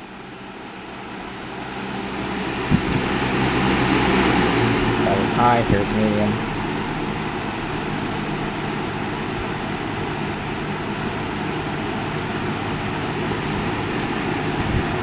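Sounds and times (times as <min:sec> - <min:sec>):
fan air rushing: 0:00.0 - 0:15.0
low motor hum: 0:00.0 - 0:15.0.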